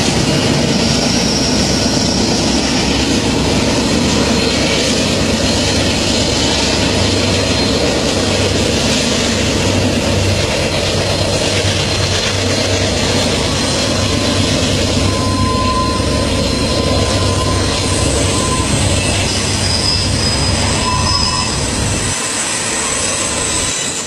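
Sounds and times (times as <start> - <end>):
high wheel squeals: 0.0 - 24.0
train coaches rumbling past: 0.0 - 24.0.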